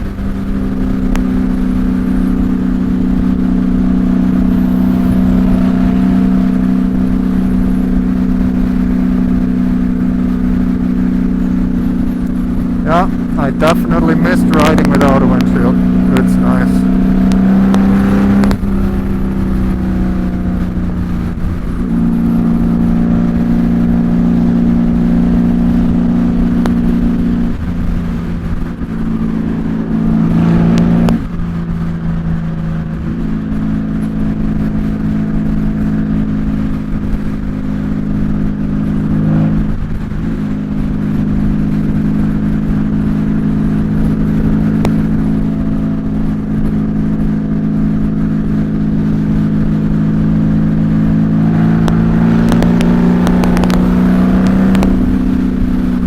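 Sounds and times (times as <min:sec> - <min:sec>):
wind rumble: 0:00.0 - 0:15.1, 0:16.8 - 0:56.0
motorcycle engine running: 0:00.0 - 0:56.0.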